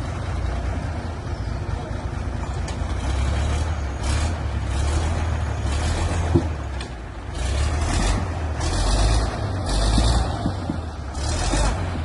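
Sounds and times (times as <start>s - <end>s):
diesel tractor engine rumbling: 0.0s - 12.0s.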